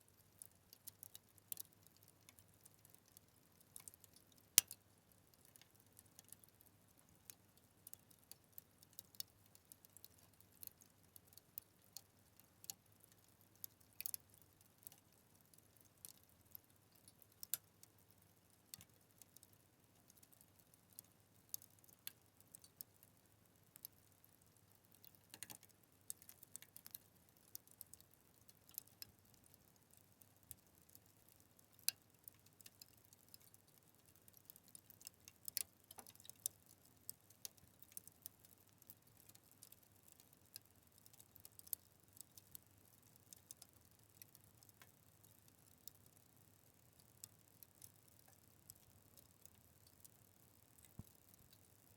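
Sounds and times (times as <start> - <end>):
faint steady hiss: 0.0 - 51.9.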